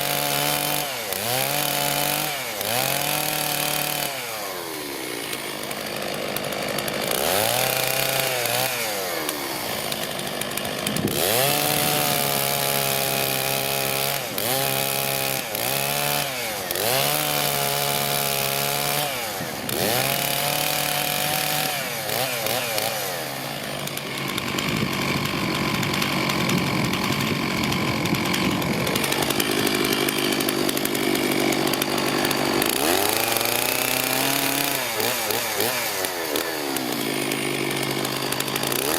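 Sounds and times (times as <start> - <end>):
chainsaw cutting firewood: 0.0 - 38.9.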